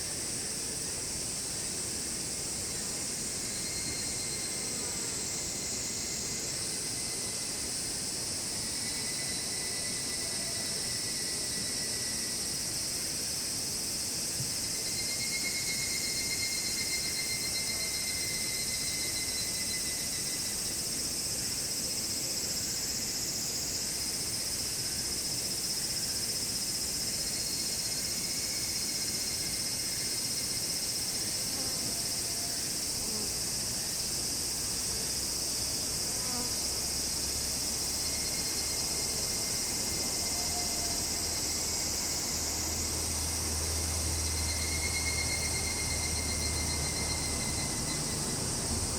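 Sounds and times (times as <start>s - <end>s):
fluttering insect trill: 0.0s - 48.9s.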